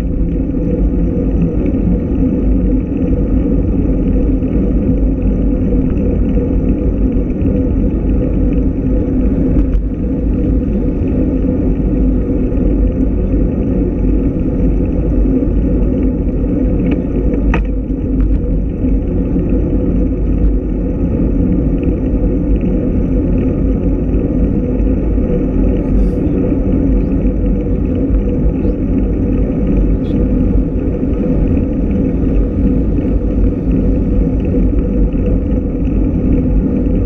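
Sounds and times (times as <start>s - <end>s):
road rumble: 0.0s - 37.0s
wind buffeting microphone: 0.0s - 37.0s.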